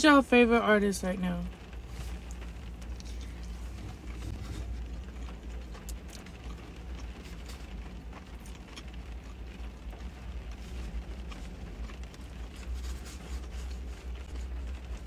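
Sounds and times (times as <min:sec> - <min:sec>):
car idling rumble: 0:00.0 - 0:15.0.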